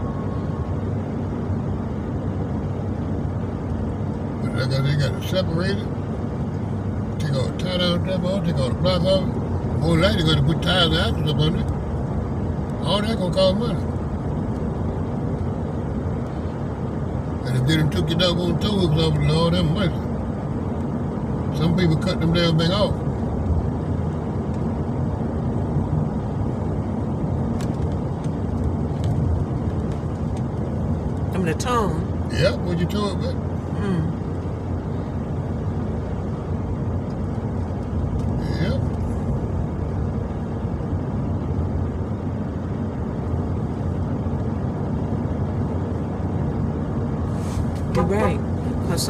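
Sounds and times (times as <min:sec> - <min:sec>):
road and engine noise in truck cab: 0:00.0 - 0:49.0.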